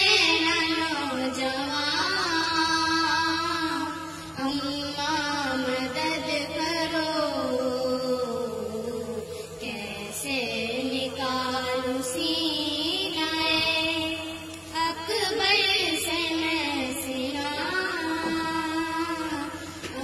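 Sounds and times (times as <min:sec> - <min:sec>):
girls chanting a lament: 0:00.0 - 0:20.0.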